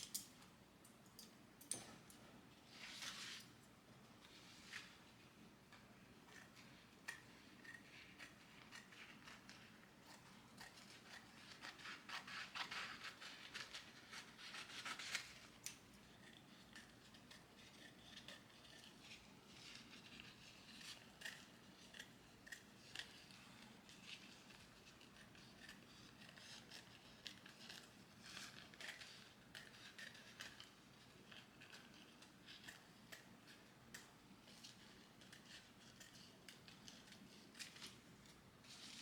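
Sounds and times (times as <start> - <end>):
small snips and scratches: 5.7 - 39.0.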